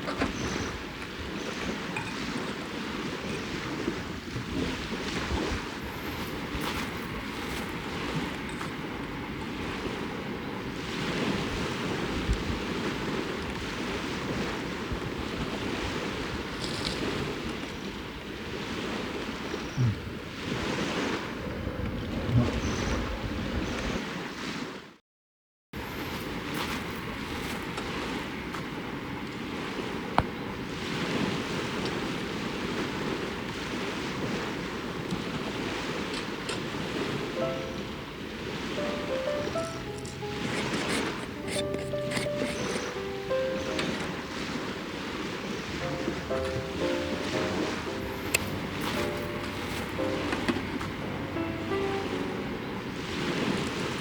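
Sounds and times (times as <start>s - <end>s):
wind buffeting microphone: 0.0s - 24.2s, 25.8s - 54.0s
small waves washing onto shore: 0.0s - 25.0s, 25.8s - 54.0s.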